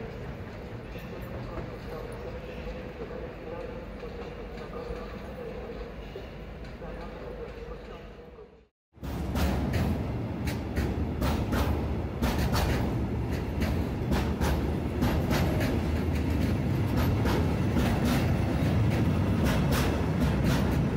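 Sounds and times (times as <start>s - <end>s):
train running on tracks: 0.0s - 20.9s.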